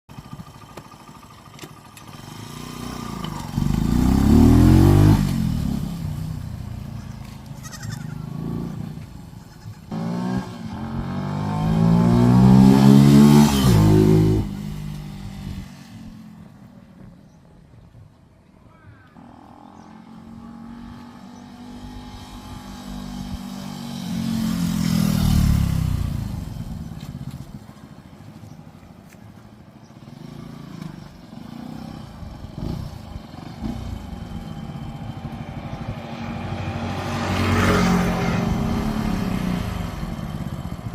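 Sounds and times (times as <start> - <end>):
motorcycle passing at speed: 0.1 - 17.4, 19.2 - 28.6, 29.7 - 40.9.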